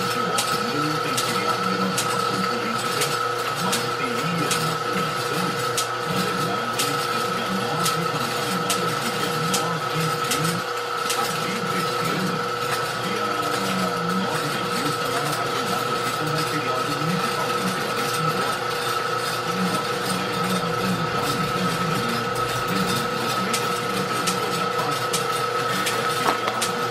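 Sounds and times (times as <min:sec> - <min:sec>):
machine whine and mechanical rattle: 0:00.0 - 0:26.9.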